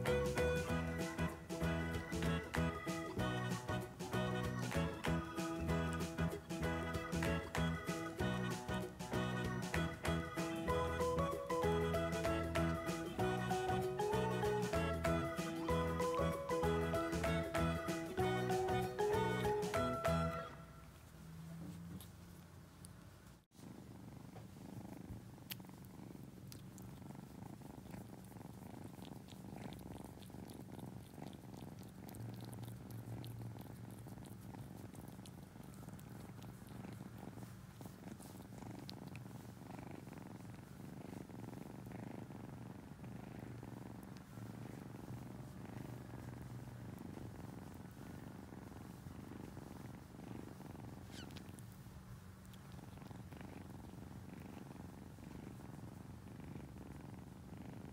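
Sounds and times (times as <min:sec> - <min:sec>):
kitten purring: 0:00.0 - 0:57.9.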